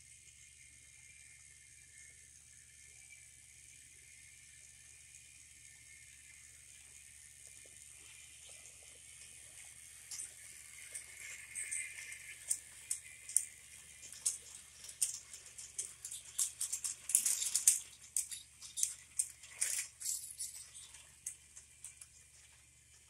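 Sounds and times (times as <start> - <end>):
toy train clicking on plastic track: 0.0 - 23.0.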